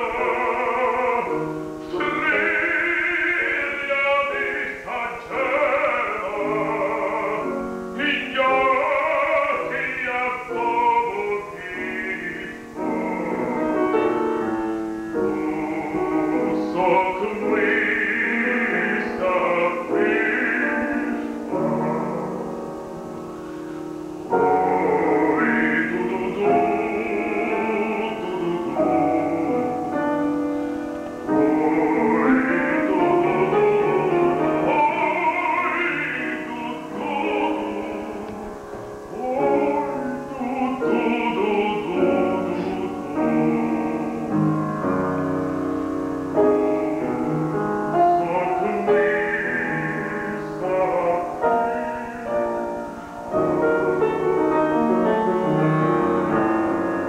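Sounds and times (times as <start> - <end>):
baritone singing with vibrato: 0.0 - 57.0
grand piano: 0.0 - 57.0.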